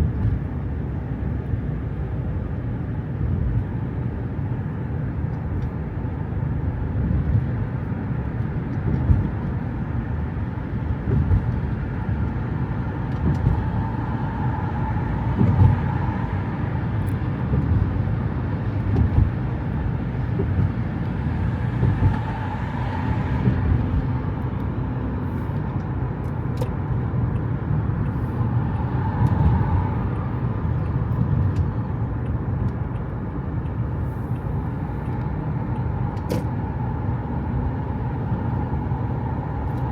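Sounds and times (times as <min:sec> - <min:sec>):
motor vehicle rumble: 0:00.0 - 0:39.9.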